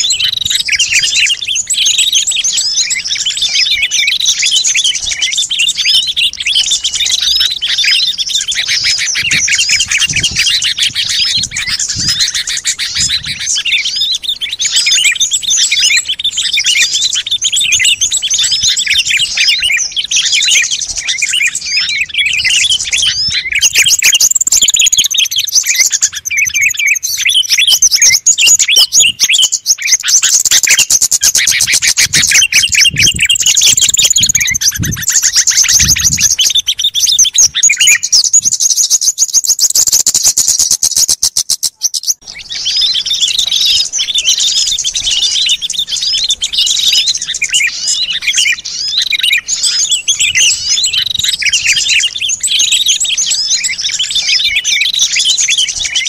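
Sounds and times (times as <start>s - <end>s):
songbirds chirping and twittering: 0.0s - 56.0s.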